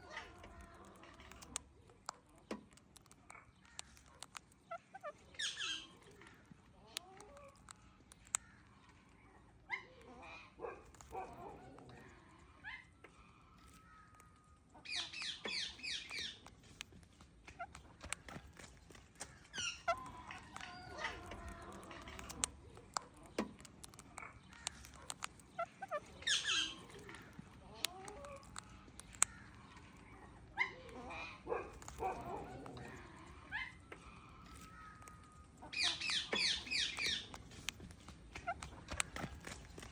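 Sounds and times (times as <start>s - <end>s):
parrot clicking: 0.0s - 9.2s, 10.0s - 12.4s, 13.4s - 39.9s
parrot chirping calls: 0.0s - 39.9s.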